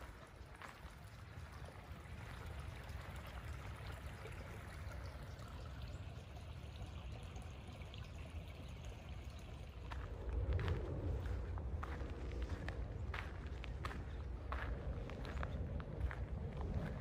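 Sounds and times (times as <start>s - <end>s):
trickle of running water: 0.0s - 17.0s
wind rumble on microphone: 0.0s - 17.0s.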